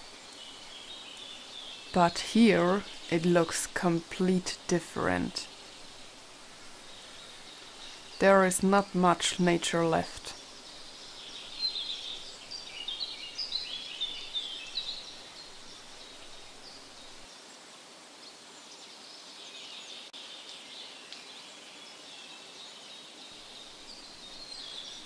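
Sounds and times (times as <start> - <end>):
small birds chirping: 0.0 - 17.5, 18.3 - 25.0
steady outdoor hiss: 0.0 - 25.0.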